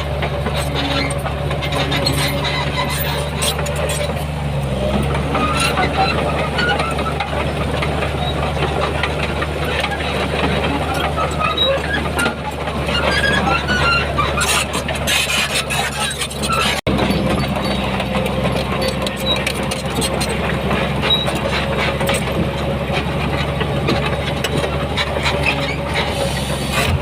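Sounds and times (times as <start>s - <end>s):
diesel engine of earthmoving machine: 0.0s - 27.0s
squeaks and clanks: 0.0s - 27.0s.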